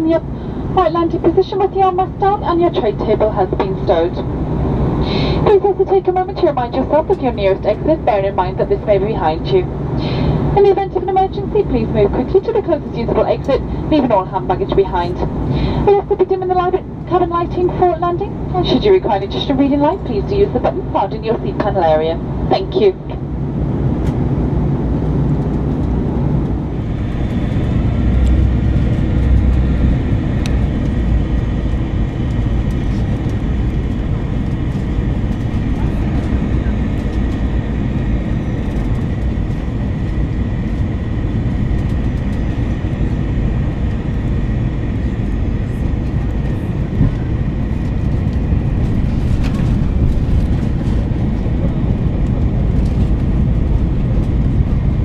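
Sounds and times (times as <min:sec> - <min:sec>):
airplane cabin engine rumble: 0:00.0 - 0:55.0
faint steady whine: 0:00.0 - 0:55.0.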